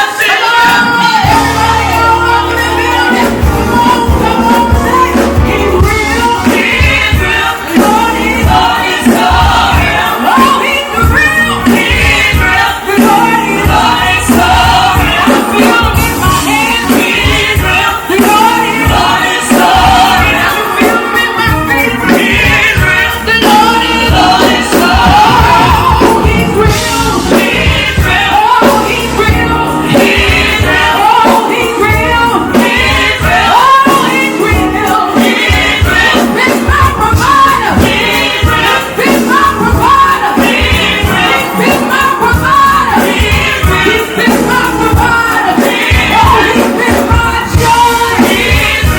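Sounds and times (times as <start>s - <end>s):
group of singers: 0.0s - 48.9s
worship band playing: 0.0s - 48.9s.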